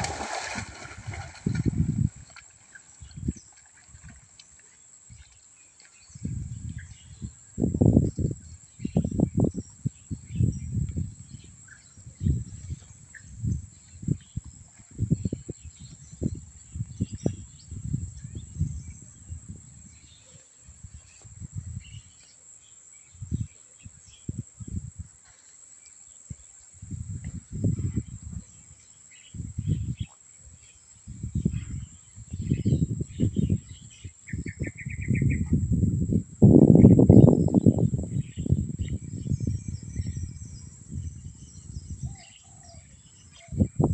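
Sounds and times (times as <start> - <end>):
wind buffeting microphone: 0.0 - 4.3, 6.0 - 22.2, 23.0 - 25.2, 26.3 - 43.9
faint insect chirps: 0.1 - 43.9.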